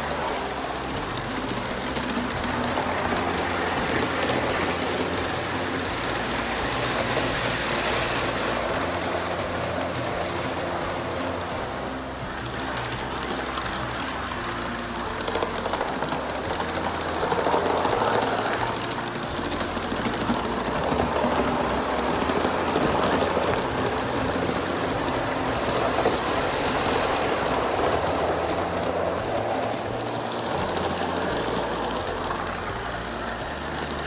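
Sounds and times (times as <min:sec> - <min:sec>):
steam hiss and exhaust: 0:00.0 - 0:34.0
wheels clicking on track: 0:00.0 - 0:34.0.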